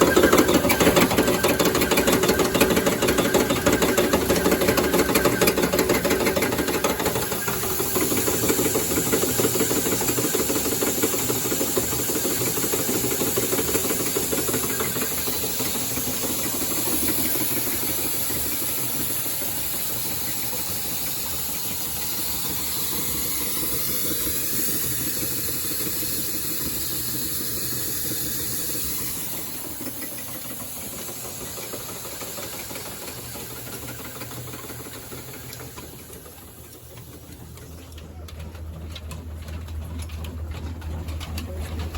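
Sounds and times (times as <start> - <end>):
stationary diesel engine running: 0.0 - 41.9
steady hiss: 3.8 - 37.7.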